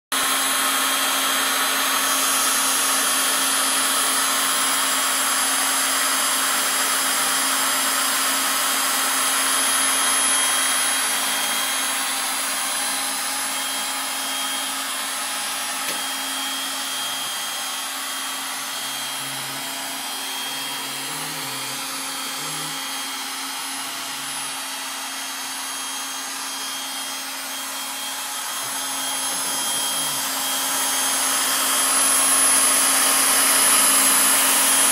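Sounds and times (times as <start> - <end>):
engraving machine spindle whine: 0.2 - 34.9.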